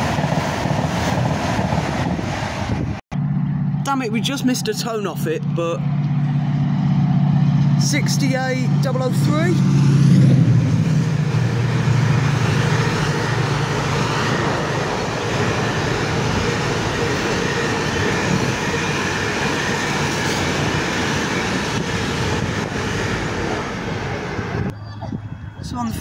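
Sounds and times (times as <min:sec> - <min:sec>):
locomotive engine drone: 0:00.0 - 0:26.0
train wagons rumbling past: 0:00.0 - 0:26.0.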